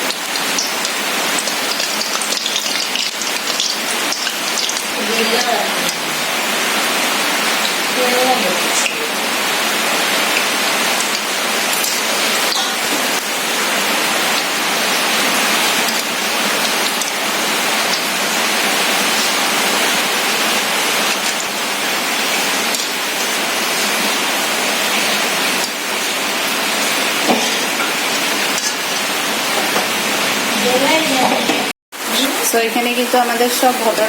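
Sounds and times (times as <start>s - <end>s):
dough deep-frying in oil: 0.0s - 34.0s.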